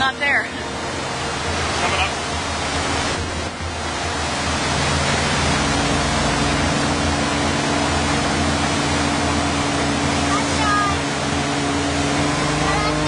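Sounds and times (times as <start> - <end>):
boat engine hum: 0.0 - 13.0
churning wake water: 0.0 - 13.0.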